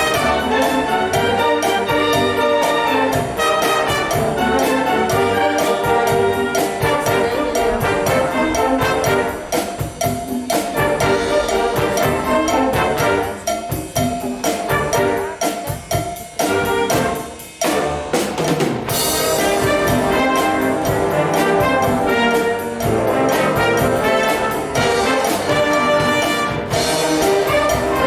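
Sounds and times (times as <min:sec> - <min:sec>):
wind band playing: 0:00.0 - 0:28.0.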